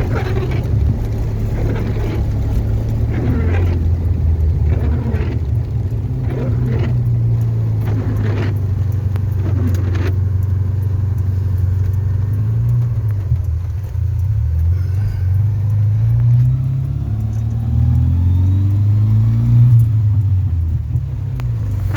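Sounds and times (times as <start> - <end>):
car rumbling: 0.0 - 21.9.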